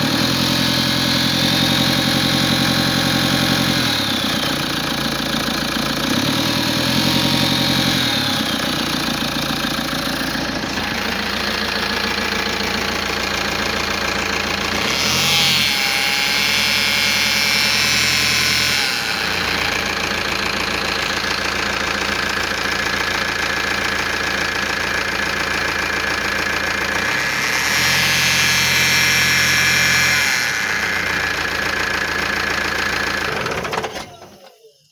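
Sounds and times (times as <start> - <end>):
car engine idling: 0.0 - 27.4, 28.6 - 33.7.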